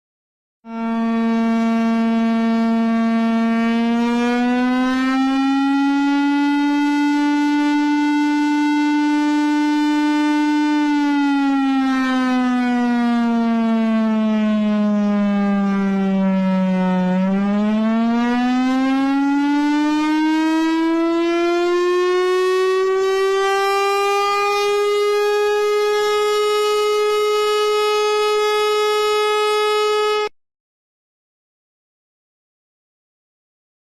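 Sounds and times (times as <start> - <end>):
air raid siren: 0.7 - 30.3.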